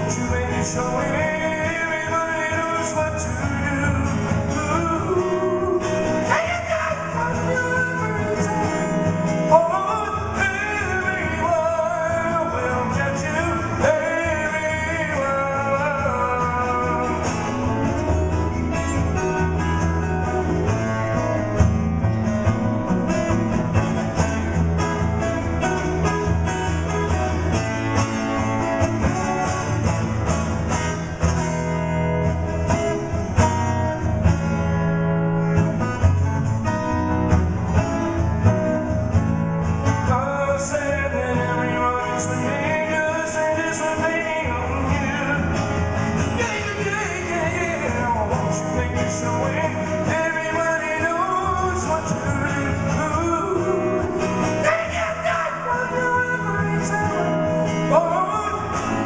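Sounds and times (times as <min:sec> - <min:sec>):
amplified acoustic guitar strumming: 0:00.0 - 0:59.0.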